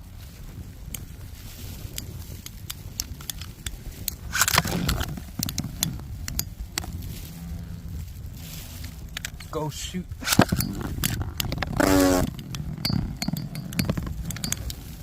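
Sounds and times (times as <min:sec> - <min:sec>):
rustle and scrape: 0:00.0 - 0:15.0
wind rumbling on microphone: 0:00.0 - 0:15.0.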